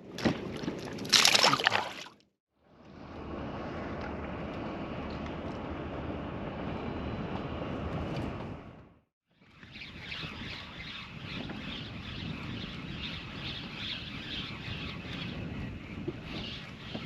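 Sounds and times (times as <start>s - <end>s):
wind noise on microphone: 3.0s - 17.0s.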